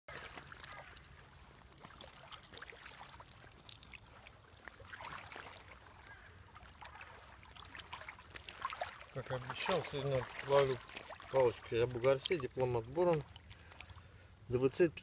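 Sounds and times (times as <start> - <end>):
water splashing: 0.1 - 14.9
river water trickling: 0.1 - 15.0.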